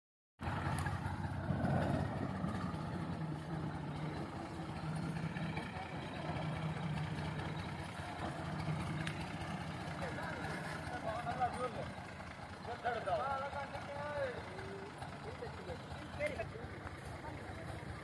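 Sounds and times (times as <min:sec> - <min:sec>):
tractor diesel engine running: 0:00.4 - 0:18.0.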